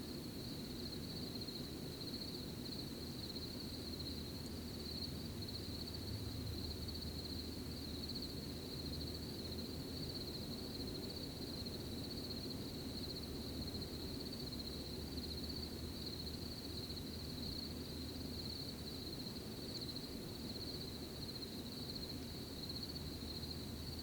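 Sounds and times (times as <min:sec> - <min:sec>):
crickets chirping: 0:00.2 - 0:24.0.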